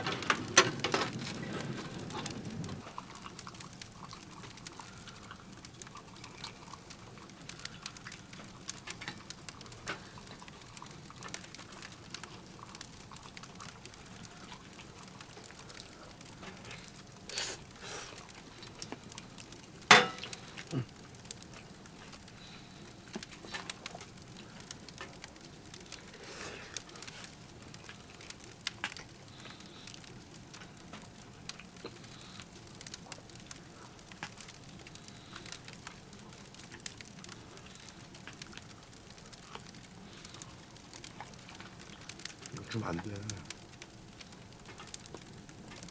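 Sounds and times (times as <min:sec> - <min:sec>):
firewood crackling in a stove: 0:00.0 - 0:45.9.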